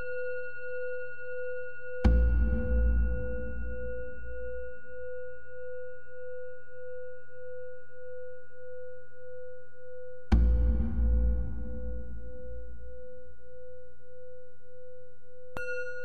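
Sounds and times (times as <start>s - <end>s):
singing bowl ringing: 0.0s - 10.3s, 12.4s - 16.0s.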